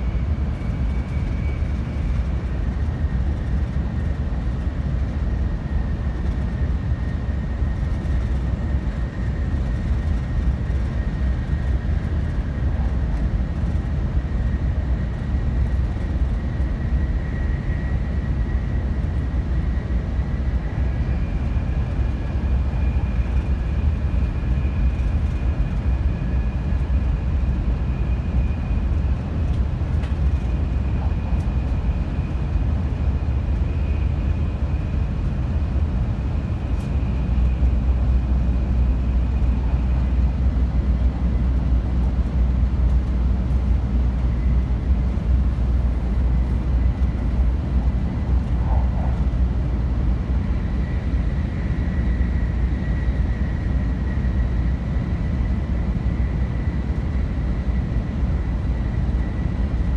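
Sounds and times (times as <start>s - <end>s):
train deep rumble: 0.0s - 59.9s.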